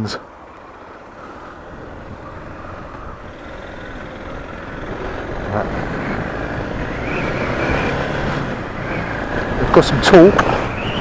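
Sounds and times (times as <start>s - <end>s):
motorcycle engine accelerating: 1.5s - 11.0s.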